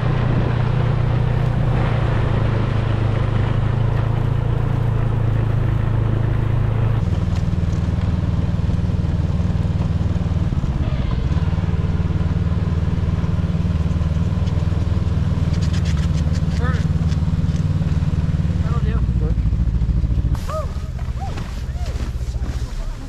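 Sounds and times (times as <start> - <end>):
snowmobile engine running: 0.0 - 23.0.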